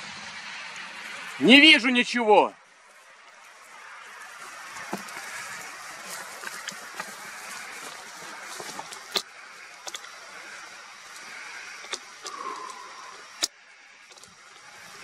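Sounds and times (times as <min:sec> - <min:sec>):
steady noisy hiss: 0:00.0 - 0:15.0.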